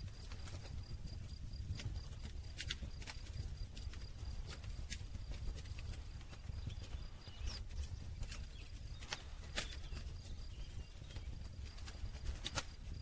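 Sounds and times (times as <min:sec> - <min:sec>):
burning wood popping and crackling: 0:00.0 - 0:13.0.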